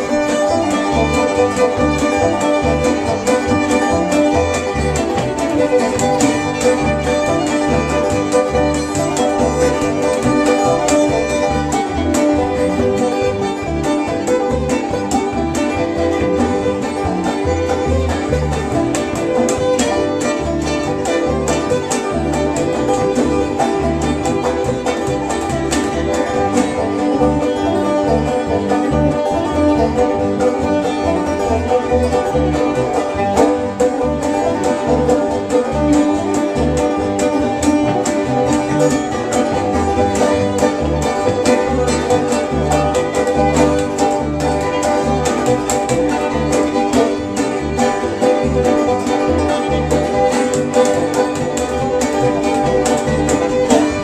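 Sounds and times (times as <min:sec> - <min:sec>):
fiddle lead: 0:00.0 - 0:54.0
plucked upright bass: 0:00.0 - 0:54.0
strummed guitar: 0:00.0 - 0:54.0.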